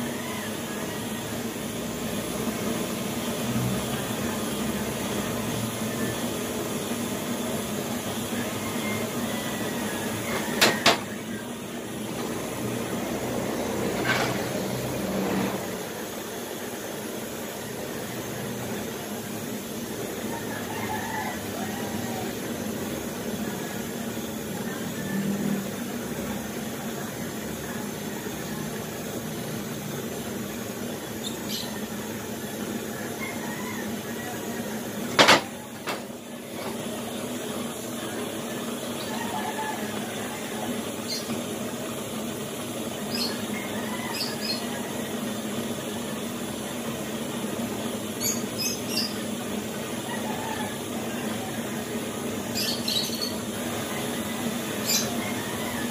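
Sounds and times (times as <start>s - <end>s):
gas torch flame hissing: 0.0s - 55.9s.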